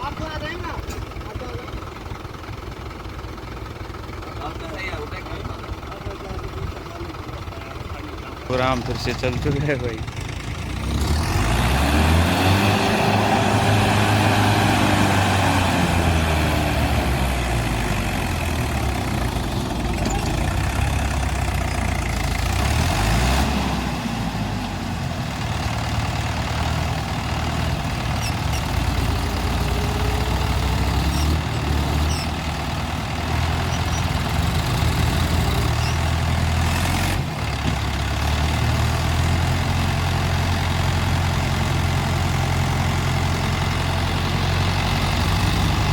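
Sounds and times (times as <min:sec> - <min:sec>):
tractor engine revving: 0:00.1 - 0:45.9.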